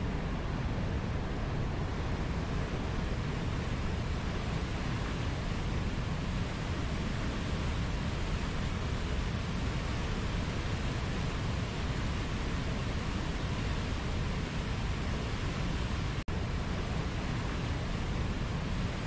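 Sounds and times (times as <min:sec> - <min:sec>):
river rapids and waterfall rushing: 0:00.0 - 0:19.0.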